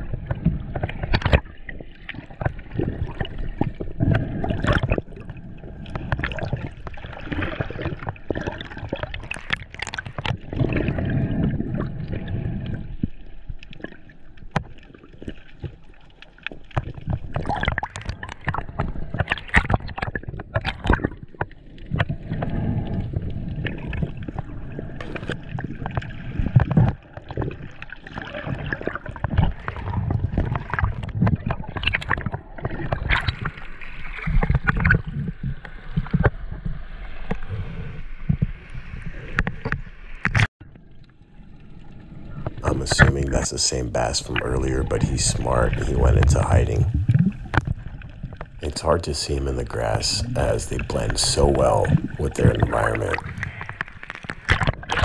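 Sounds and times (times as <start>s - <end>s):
underwater churning surf: 0.0s - 40.4s, 41.4s - 55.0s.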